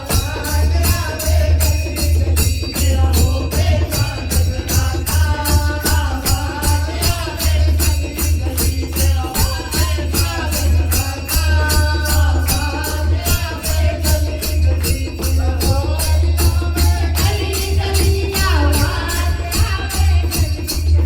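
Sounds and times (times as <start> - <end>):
jingling percussion: 0.0 - 21.0
person singing devotional song: 0.0 - 21.0.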